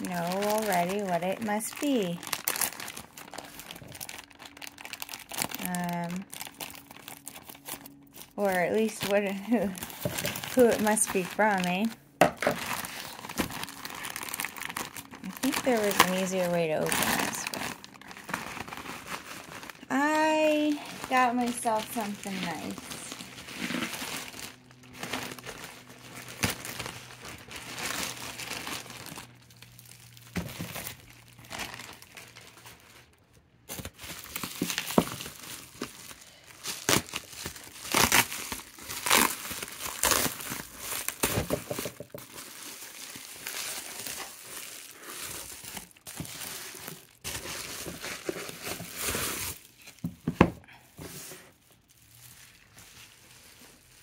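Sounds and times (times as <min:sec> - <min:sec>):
bubble wrap crinkling: 0:00.0 - 0:54.0.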